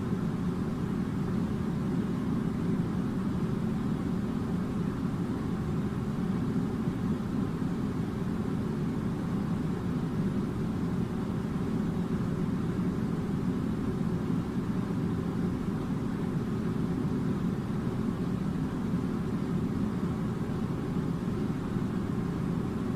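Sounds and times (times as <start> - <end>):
air conditioner drone: 0.0 - 22.9.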